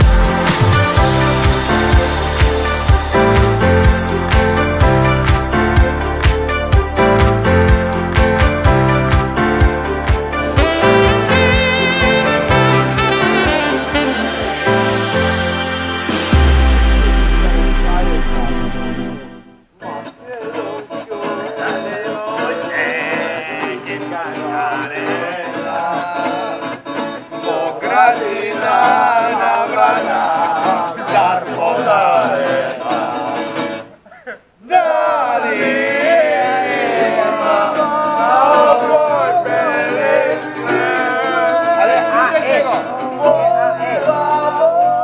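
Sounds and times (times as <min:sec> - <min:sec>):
acoustic guitar strumming: 0:00.0 - 0:34.0, 0:35.6 - 0:44.9
group of voices singing: 0:07.0 - 0:34.0, 0:34.6 - 0:45.0.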